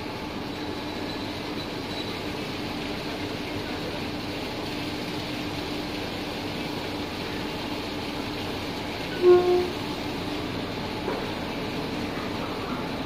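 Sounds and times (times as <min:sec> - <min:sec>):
locomotive engine humming: 0:00.0 - 0:13.0.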